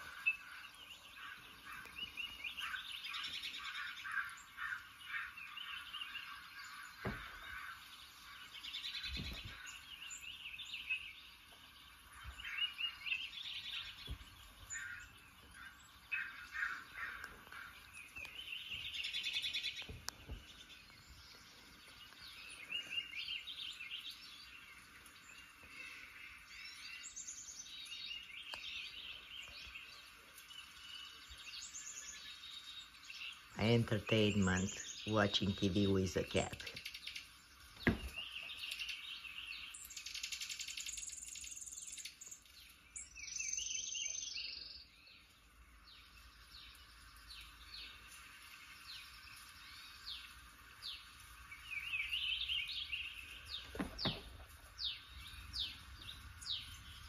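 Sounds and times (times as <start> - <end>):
birds chirping through tv speakers: 0.0 - 57.0.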